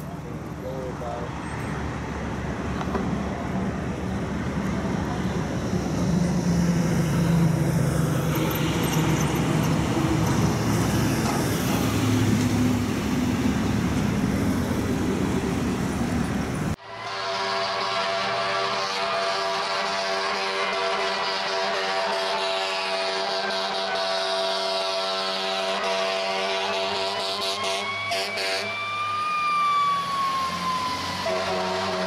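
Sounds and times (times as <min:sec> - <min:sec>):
car and truck engines passing: 0:00.0 - 0:17.0, 0:22.1 - 0:32.0
road noise: 0:00.0 - 0:32.0.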